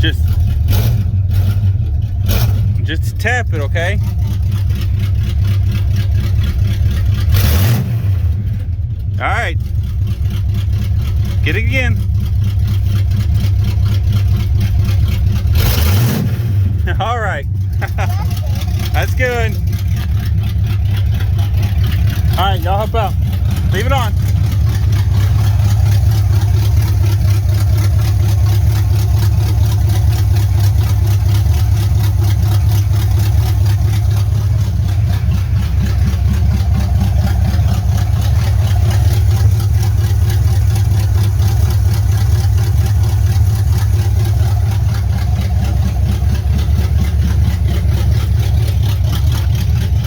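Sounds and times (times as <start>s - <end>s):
loud engine idling: 0.0s - 50.0s.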